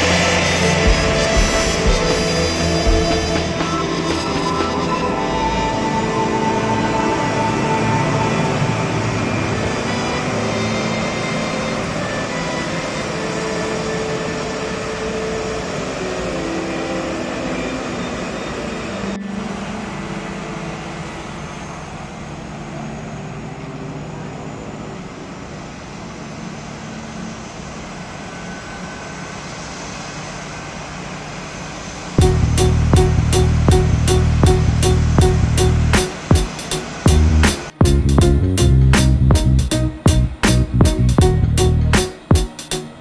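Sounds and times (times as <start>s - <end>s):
jet engines rushing and whining: 0.0s - 37.9s.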